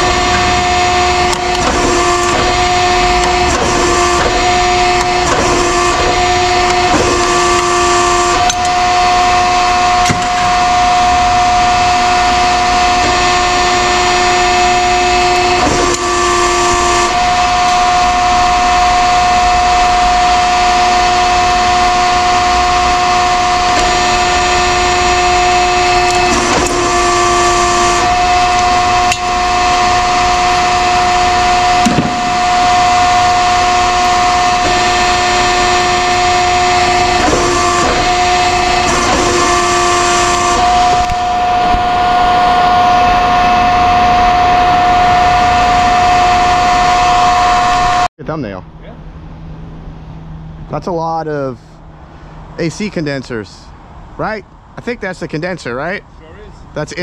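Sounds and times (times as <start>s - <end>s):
loud mechanical drone: 0.0s - 57.0s.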